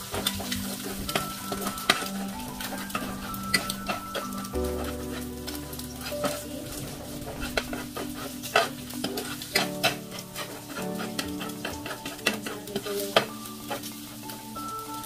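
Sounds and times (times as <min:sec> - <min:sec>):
spatula scraping pan: 0:00.0 - 0:14.4
eggs sizzling in oil: 0:00.0 - 0:15.0.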